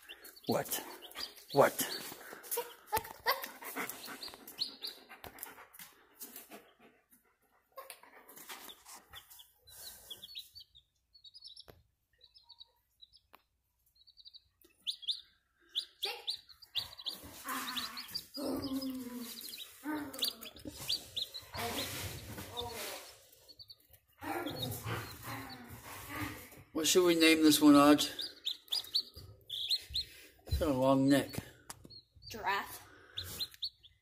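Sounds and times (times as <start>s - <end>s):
chick peeping: 0.0s - 5.6s, 7.8s - 34.0s.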